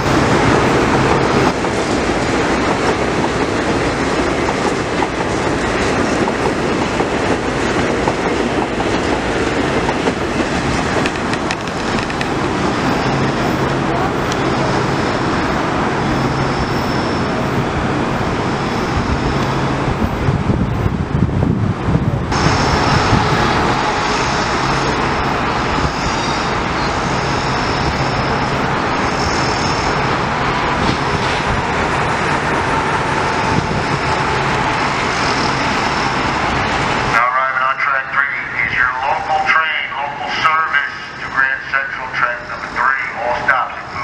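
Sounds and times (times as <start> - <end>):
train rumbling on tracks: 0.0 - 44.0.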